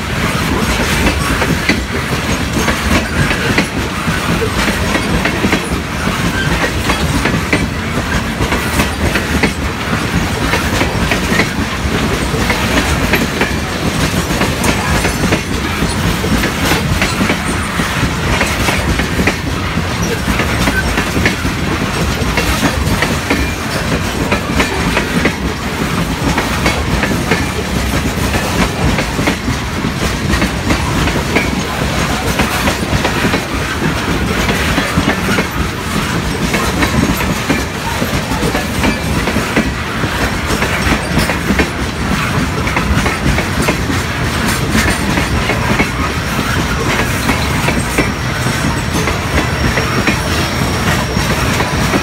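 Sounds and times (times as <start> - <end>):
train wheels clattering over rail joints: 0.0 - 52.0.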